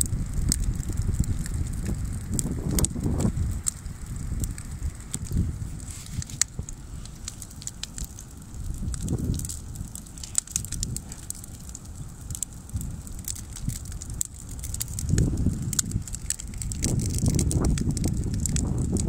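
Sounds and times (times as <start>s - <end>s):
bonfire crackling: 0.0s - 19.0s
low rumble: 0.0s - 19.0s.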